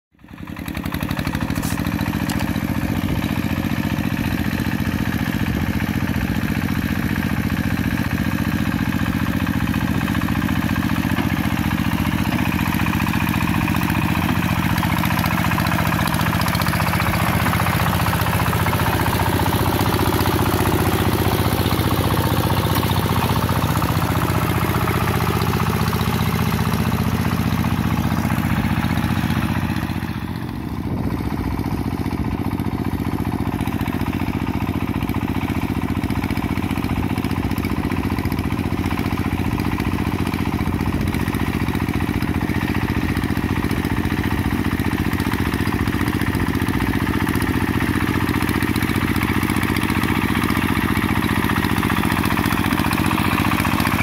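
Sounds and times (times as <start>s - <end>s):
diesel engine running: 0.2s - 54.0s
wheels churning through mud: 0.4s - 54.0s.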